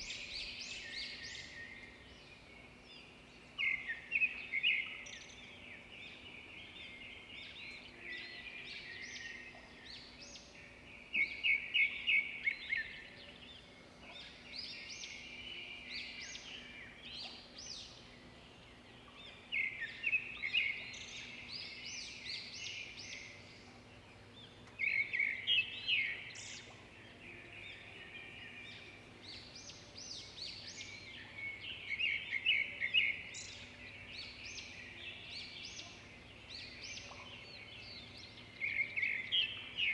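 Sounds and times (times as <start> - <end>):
faint steady hum: 0.0 - 39.9
songbirds chirping and trilling: 0.0 - 39.9.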